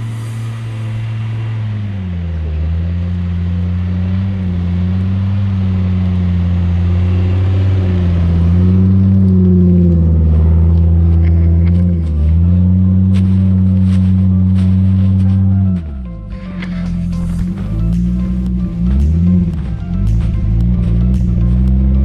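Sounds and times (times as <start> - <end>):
truck engine under load: 0.0 - 22.0.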